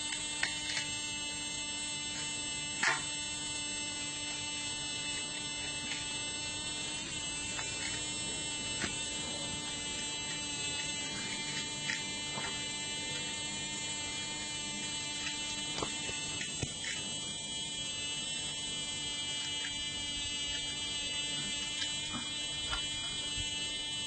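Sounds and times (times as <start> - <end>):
appliance buzz with high whine: 0.0 - 24.0.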